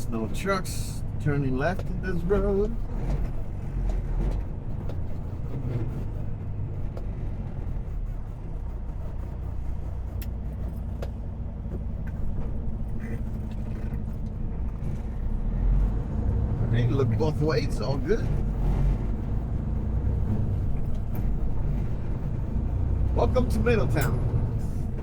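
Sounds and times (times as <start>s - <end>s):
truck diesel engine rumbling: 0.0s - 25.0s.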